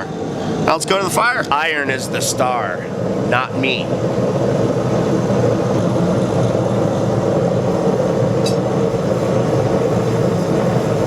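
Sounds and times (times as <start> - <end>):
forge fire rushing: 0.0 - 11.0.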